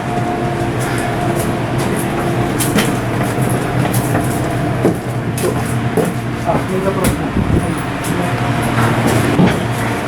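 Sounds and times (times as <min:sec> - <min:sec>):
loud machinery drone: 0:00.0 - 0:10.0.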